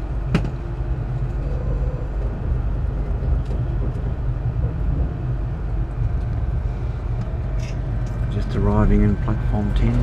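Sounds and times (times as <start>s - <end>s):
train carriage rumbling on rails: 0.0s - 10.0s.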